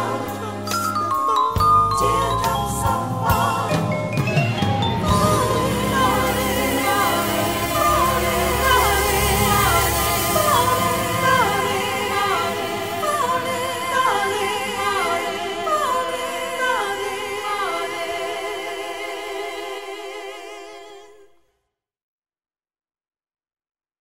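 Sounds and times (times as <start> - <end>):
layered singing voices: 0.0 - 21.3.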